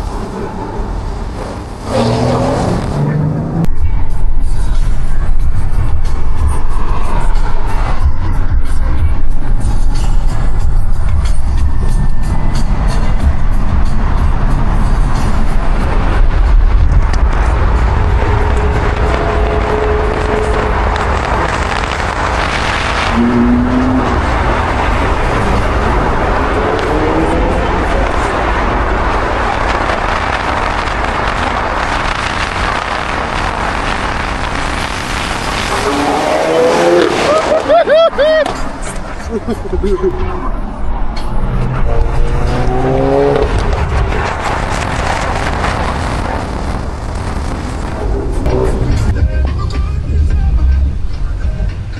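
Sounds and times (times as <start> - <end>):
car engine and road noise: 0.0 - 51.9
loud even rushing noise: 0.0 - 51.9.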